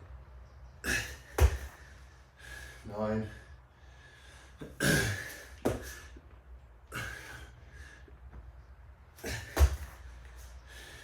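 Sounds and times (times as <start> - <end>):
man breathing hard: 0.8 - 8.3, 9.2 - 11.0.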